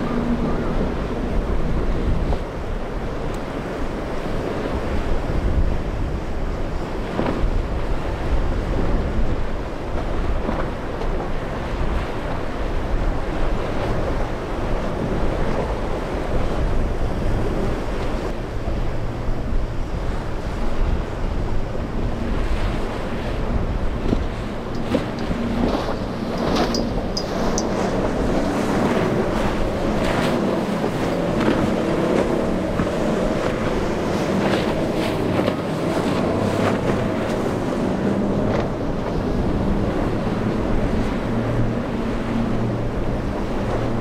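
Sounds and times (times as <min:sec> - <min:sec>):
outboard boat motor: 0:00.0 - 0:44.0
waves breaking: 0:00.0 - 0:44.0
wind buffeting microphone: 0:00.0 - 0:44.0.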